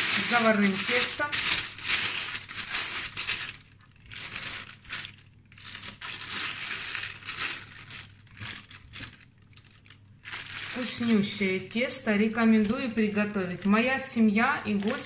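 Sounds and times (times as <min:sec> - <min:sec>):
plastic bag crinkling and rustling: 0:00.0 - 0:15.0.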